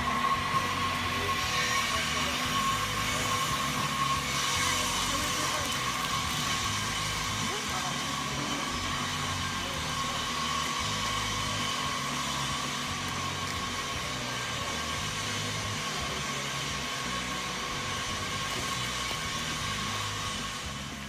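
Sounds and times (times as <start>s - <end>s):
store background hiss and hum: 0.0s - 21.0s.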